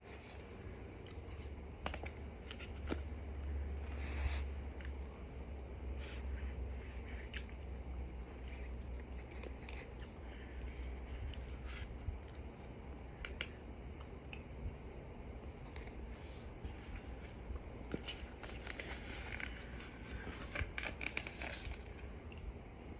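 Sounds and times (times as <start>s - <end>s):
chewing crunches: 0.0s - 22.6s
steady low hum: 0.0s - 22.9s.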